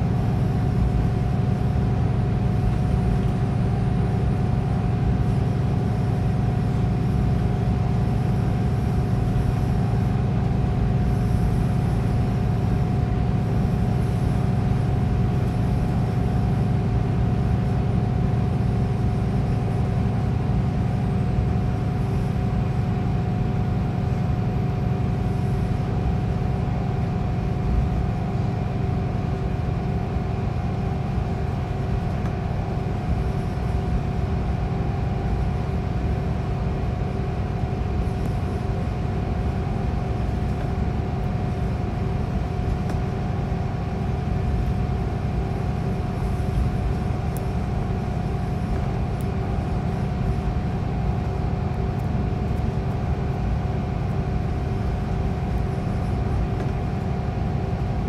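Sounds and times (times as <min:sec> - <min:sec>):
bus diesel engine drone: 0:00.0 - 0:58.0.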